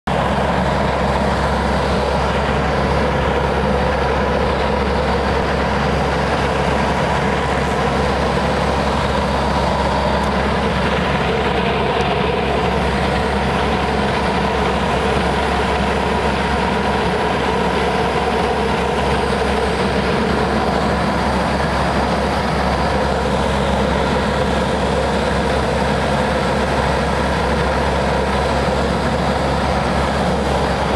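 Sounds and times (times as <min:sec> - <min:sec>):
turboprop engines droning in flight: 0:00.1 - 0:30.9.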